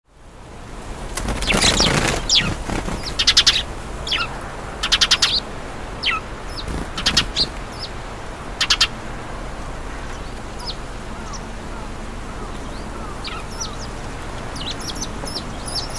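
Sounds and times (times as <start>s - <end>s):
sparrows chirping: 1.2s - 15.9s.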